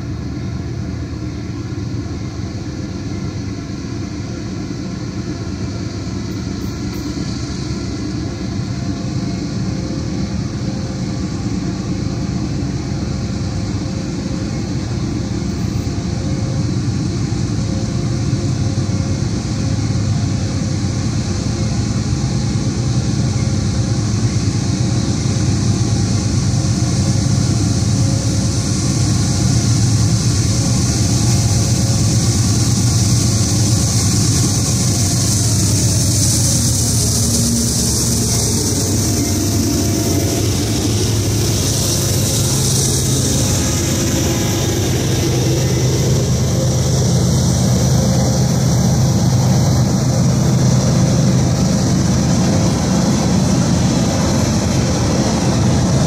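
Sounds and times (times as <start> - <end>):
diesel locomotive engine drone: 0.0 - 56.0
wheels hissing on rail: 0.0 - 56.0.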